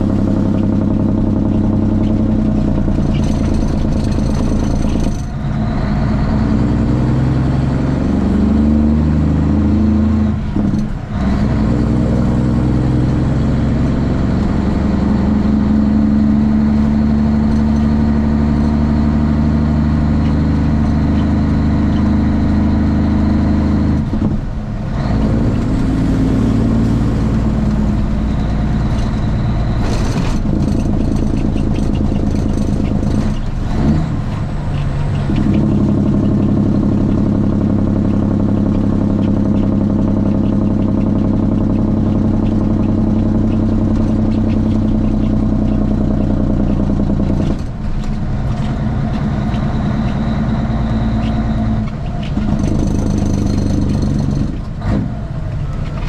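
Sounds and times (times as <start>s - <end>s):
diesel truck engine under load: 0.0s - 56.0s.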